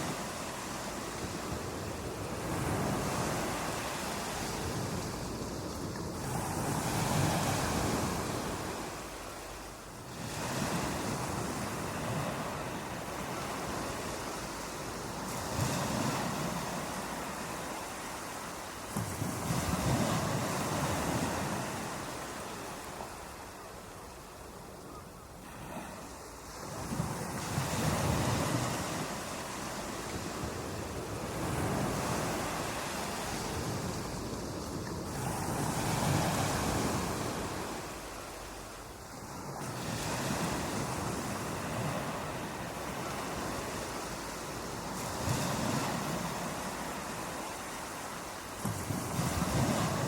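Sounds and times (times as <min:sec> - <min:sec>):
ocean surf breaking on beach: 0:00.0 - 0:24.0, 0:24.6 - 0:50.0.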